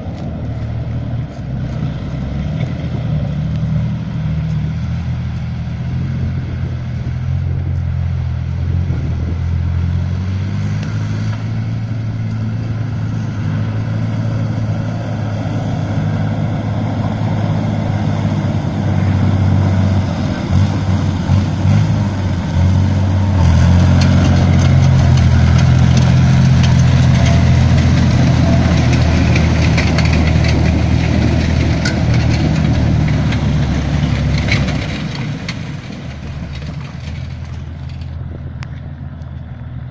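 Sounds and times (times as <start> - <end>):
tracks clanking: 0.0 - 39.8
diesel engine running: 0.0 - 39.9.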